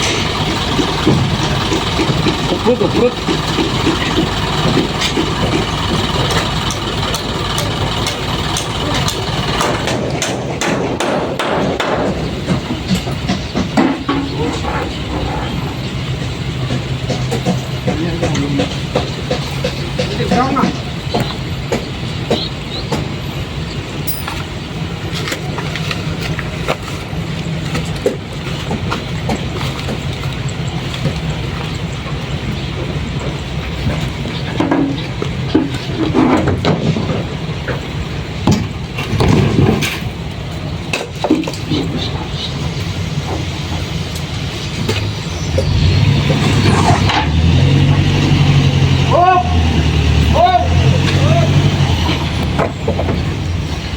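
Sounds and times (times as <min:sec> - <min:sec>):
knocks and clatter of tipping load: 0:00.0 - 0:23.3, 0:24.0 - 0:53.9
truck engine running: 0:00.0 - 0:53.9.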